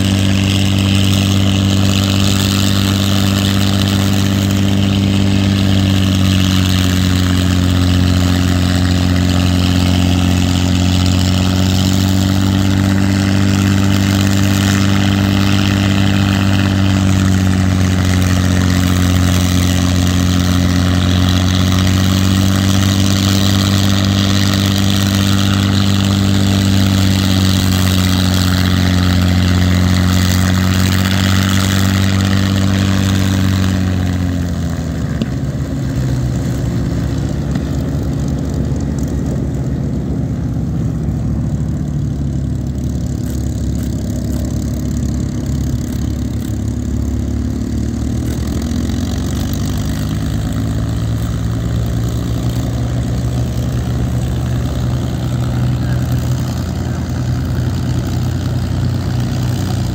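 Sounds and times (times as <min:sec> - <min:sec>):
propeller aircraft engine running: 0:00.0 - 0:59.9.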